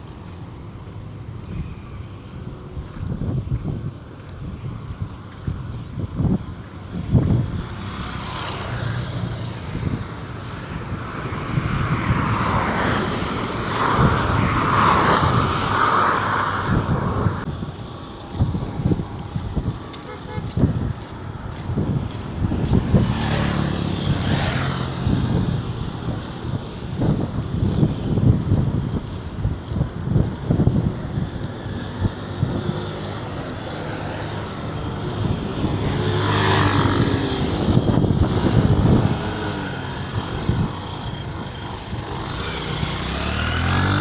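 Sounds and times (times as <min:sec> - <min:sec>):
vehicles passing on highway: 0:00.0 - 0:44.0
wind rumbling on microphone: 0:00.0 - 0:44.0.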